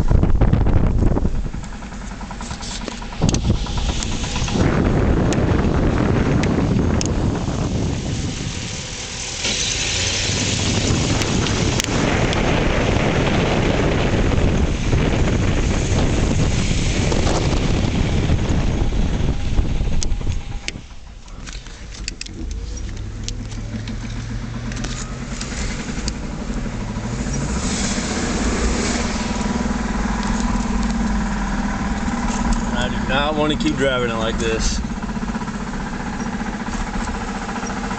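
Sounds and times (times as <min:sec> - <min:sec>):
car drivetrain whirring: 0:00.0 - 0:37.9.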